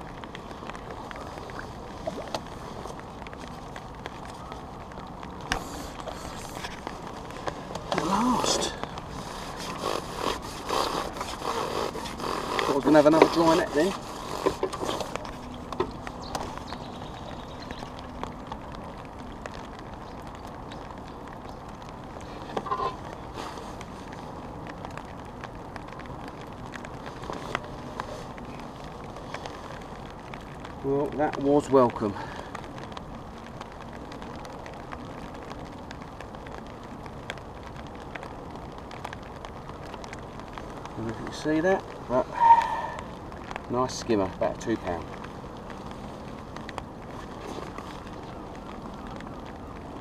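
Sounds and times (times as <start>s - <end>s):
rain on an umbrella: 0.0s - 50.0s.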